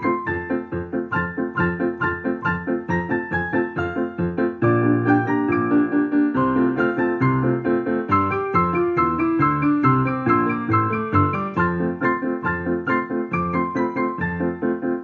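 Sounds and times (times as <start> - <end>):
digital piano duet: 0.0 - 15.0.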